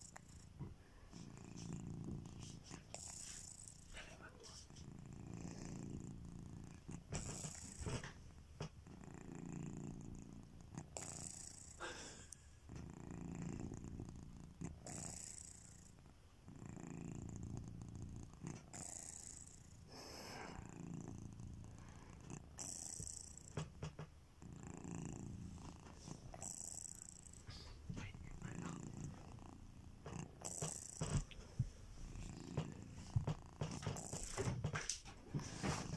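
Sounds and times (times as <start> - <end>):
cat snoring softly: 0.0 - 35.9.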